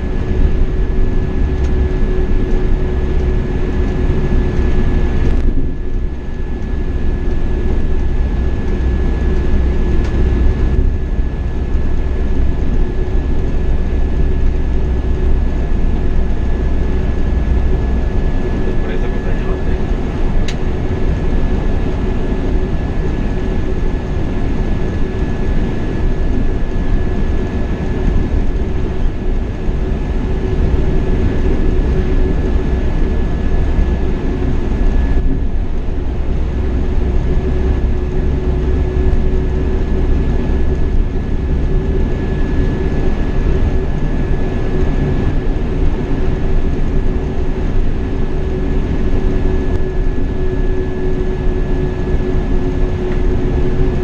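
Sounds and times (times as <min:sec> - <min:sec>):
engine and road rumble: 0:00.0 - 0:54.0
steady whine: 0:00.0 - 0:54.0.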